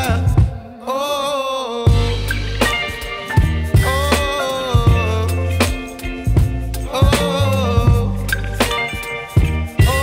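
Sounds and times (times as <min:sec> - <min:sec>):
funk soul background music: 0:00.0 - 0:00.8, 0:01.8 - 0:10.0.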